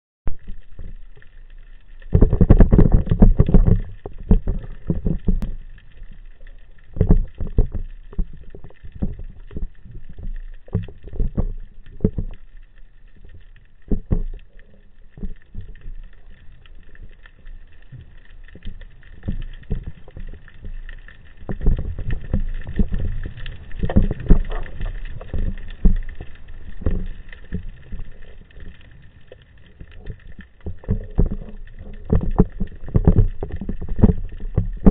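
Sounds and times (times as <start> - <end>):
muffled underwater knocks and thumps: 2.0 - 5.6, 6.8 - 12.4, 13.2 - 16.9, 17.8 - 28.4, 30.0 - 34.9.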